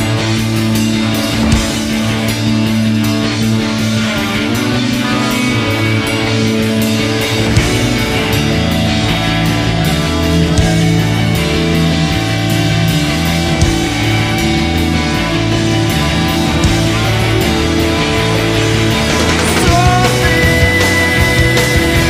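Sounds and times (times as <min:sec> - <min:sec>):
rock music with guitar and drums: 0:00.0 - 0:22.0.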